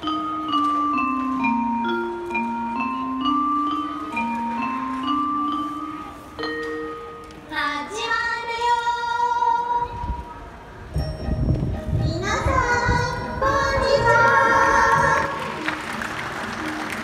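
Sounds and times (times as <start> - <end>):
light instrumental music: 0.0 - 8.0, 10.9 - 17.0.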